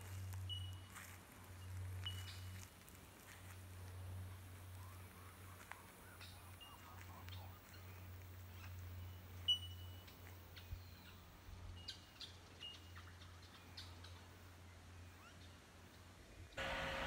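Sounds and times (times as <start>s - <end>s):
birds chirping: 0.0s - 17.0s
faint low hum: 0.0s - 17.0s.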